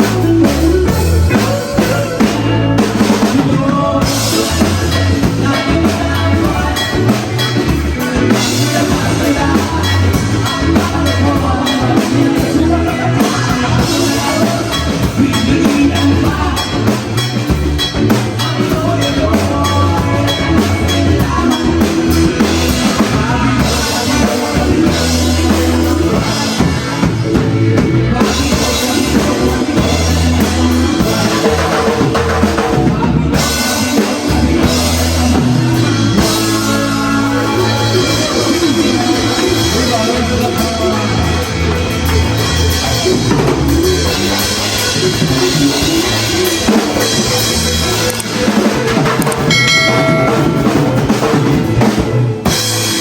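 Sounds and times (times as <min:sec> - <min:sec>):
bass drum: 0:00.0 - 0:53.0
drum rimshots: 0:00.0 - 0:53.0
rock band playing live: 0:00.0 - 0:53.0.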